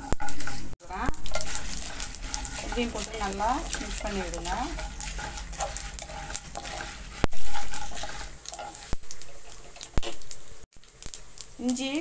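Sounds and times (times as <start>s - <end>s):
wooden spatula stirring: 0.0s - 10.4s
crackles and pops: 0.0s - 12.0s
seeds sizzling in hot oil: 0.0s - 12.0s.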